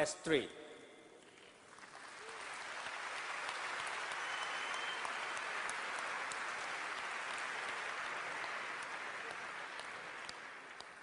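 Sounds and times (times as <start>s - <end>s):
large audience applauding: 1.3s - 11.0s.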